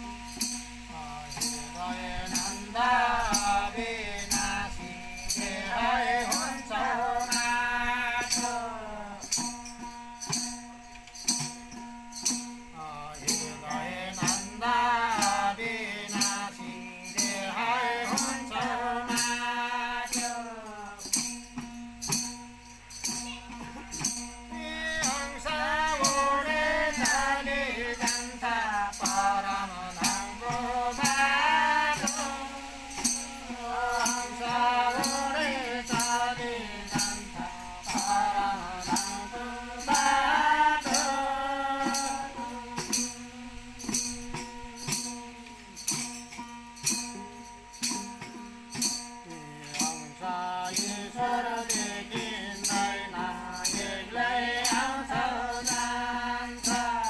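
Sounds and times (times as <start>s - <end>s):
group singing devotional song: 0.0s - 10.7s, 11.3s - 22.3s, 23.0s - 46.0s, 48.8s - 57.0s
hand cymbals struck: 0.0s - 57.0s.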